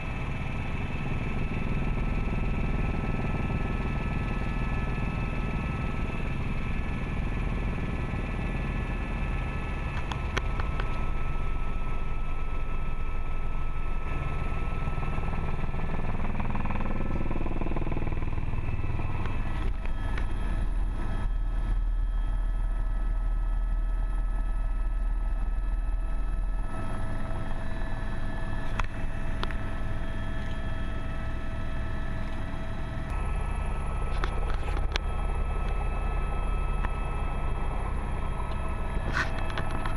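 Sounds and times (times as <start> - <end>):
helicopter engine and rotor drone: 0.0 - 39.9
steady whining tones: 0.0 - 39.9.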